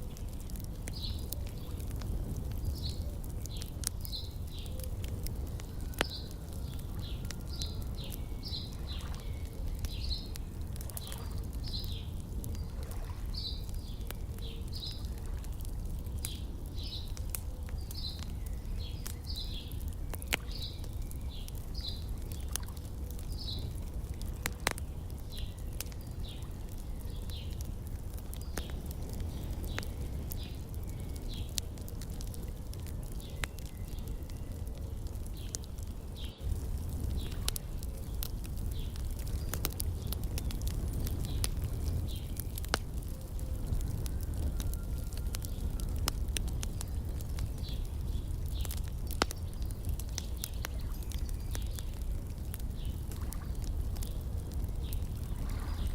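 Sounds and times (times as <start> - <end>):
songbirds chirping: 0.0 - 55.9
wood fire crackling and popping: 0.0 - 55.9.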